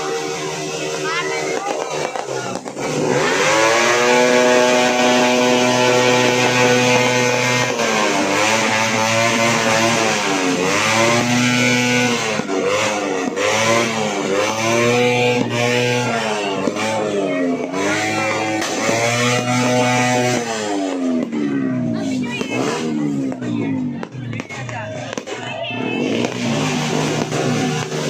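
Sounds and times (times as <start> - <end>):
vehicle engines revving: 0.0 - 28.0.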